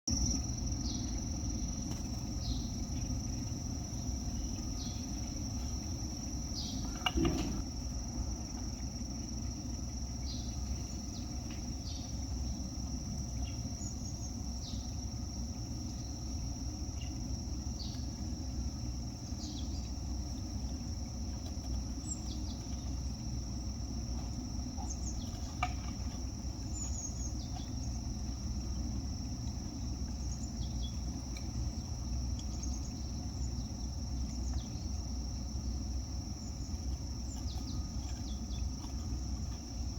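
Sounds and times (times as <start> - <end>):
high insect trill: 0.1 - 39.9
low background rumble: 0.1 - 39.9.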